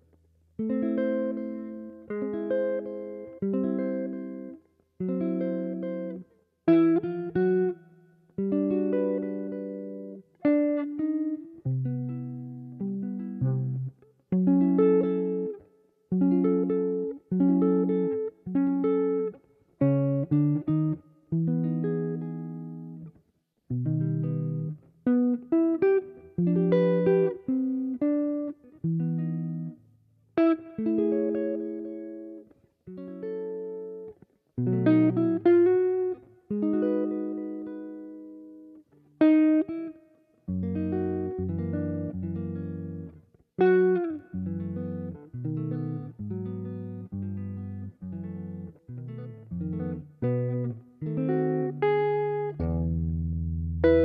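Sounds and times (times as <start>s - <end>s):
jazz guitar chords: 0.0s - 54.0s.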